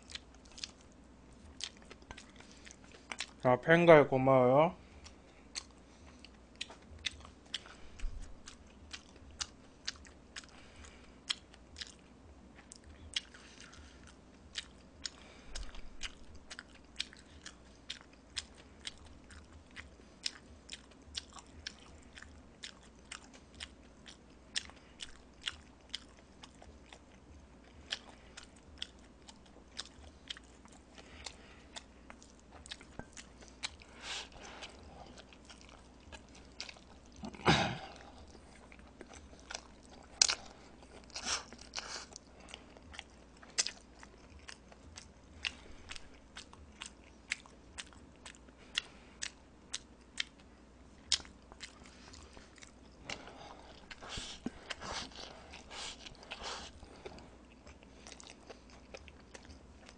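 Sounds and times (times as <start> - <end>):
chewing noodles: 0.0 - 3.4, 4.8 - 59.9.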